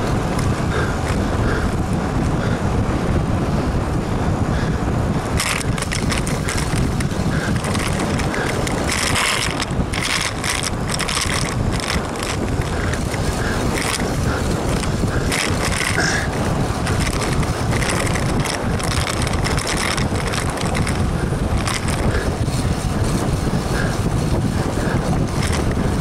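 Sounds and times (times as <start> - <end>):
bicycle ticking and rattling: 0.0 - 26.0
wind buffeting microphone: 0.0 - 26.0.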